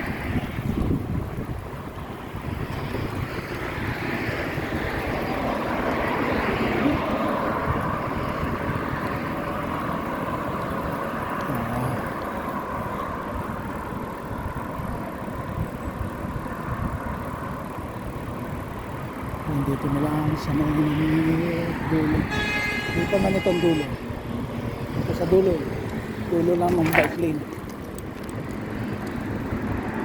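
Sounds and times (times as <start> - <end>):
road traffic: 0.0 - 30.0
wind rumbling on microphone: 0.0 - 30.0.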